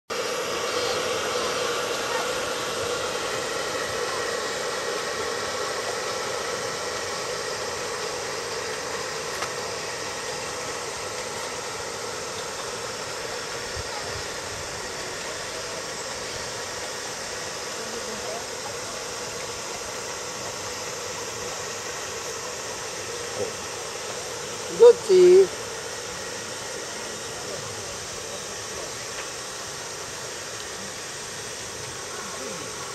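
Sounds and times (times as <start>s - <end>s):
model steam engine hissing and humming: 0.1s - 32.9s.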